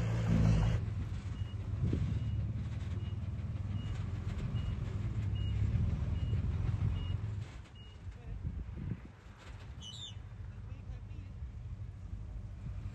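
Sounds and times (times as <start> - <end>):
diesel engine running low: 0.0 - 12.9.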